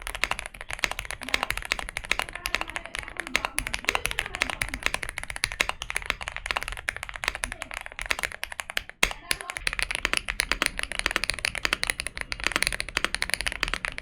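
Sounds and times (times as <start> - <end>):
fast typing on mechanical keyboard: 0.0 - 14.0.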